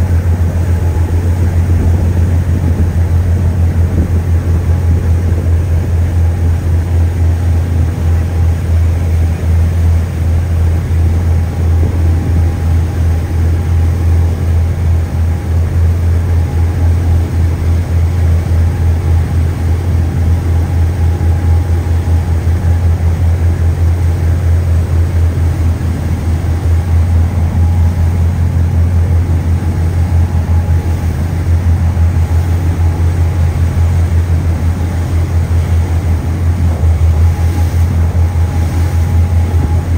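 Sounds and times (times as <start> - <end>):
ship engines droning: 0.0 - 39.9.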